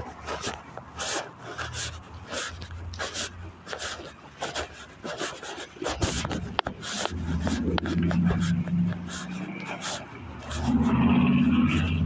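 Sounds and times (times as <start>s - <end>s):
phone rubbing and scuffing: 0.0s - 11.0s
footsteps: 0.0s - 12.0s.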